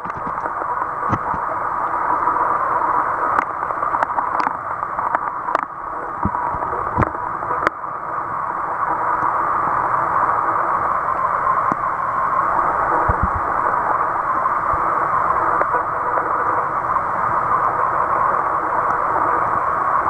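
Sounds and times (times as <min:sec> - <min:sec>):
muffled underwater water hiss: 0:00.0 - 0:20.0.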